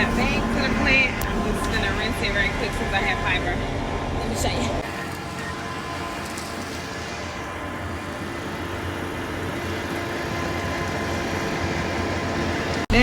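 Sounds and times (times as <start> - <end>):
concrete mixer truck running: 0.0 - 13.0.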